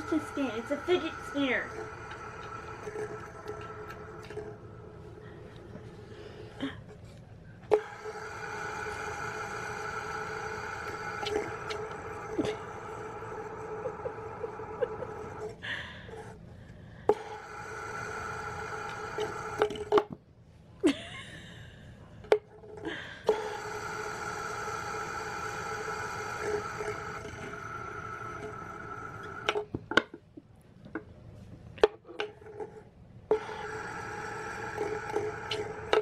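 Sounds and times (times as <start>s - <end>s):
fidget spinner whirring: 0.0s - 16.4s, 17.1s - 20.2s, 22.3s - 30.1s, 32.1s - 36.0s.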